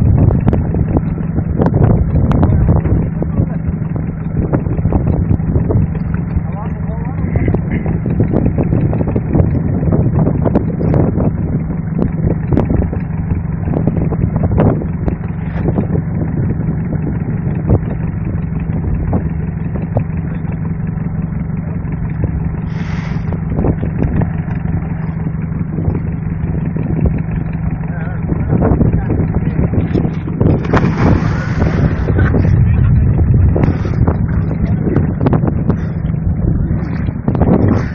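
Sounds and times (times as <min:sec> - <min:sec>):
boat engine humming: 0:00.0 - 0:37.9.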